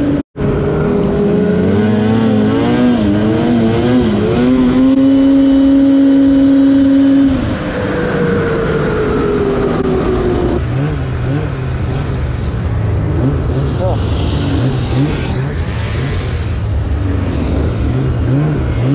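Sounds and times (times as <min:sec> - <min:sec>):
snowmobile engine at speed: 0:00.0 - 0:18.9.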